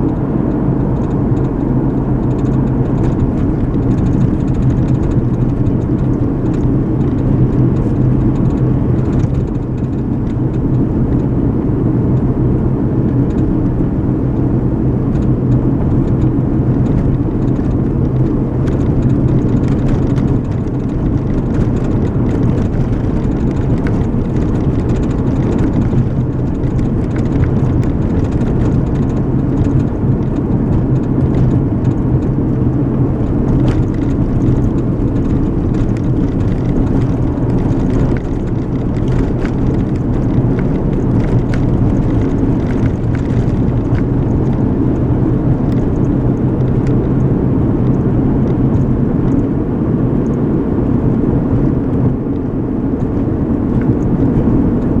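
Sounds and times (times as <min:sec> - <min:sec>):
car engine rumble: 0:00.0 - 0:55.0
tyre road noise: 0:00.0 - 0:55.0.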